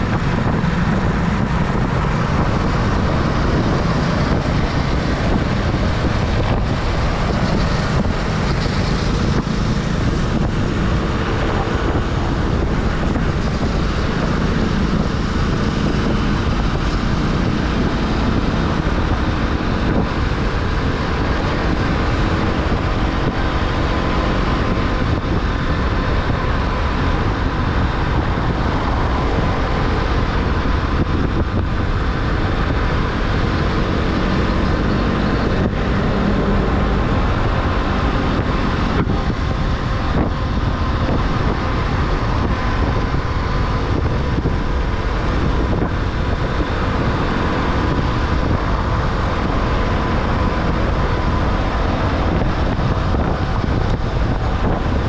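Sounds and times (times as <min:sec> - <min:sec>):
motorcycle engine running: 0:00.0 - 0:55.0
road noise: 0:00.0 - 0:55.0
traffic: 0:00.0 - 0:55.0
wind rush on microphone: 0:00.0 - 0:55.0.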